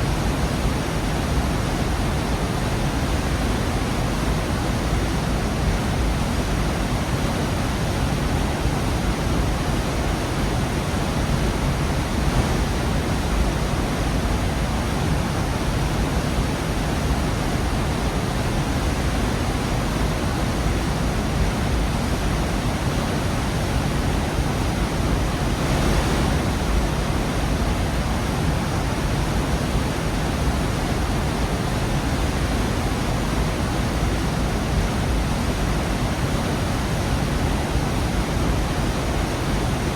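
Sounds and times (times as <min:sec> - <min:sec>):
waterfall rushing: 0:07.1 - 0:39.9.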